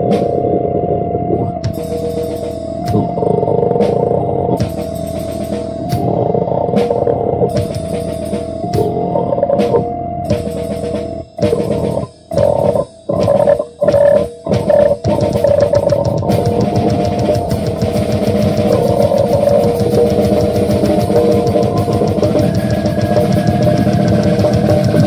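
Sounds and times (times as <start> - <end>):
distorted electric guitar: 0.0 - 25.0
drum kit with fast cymbals: 1.6 - 3.2, 3.8 - 6.2, 6.8 - 9.0, 9.6 - 25.0.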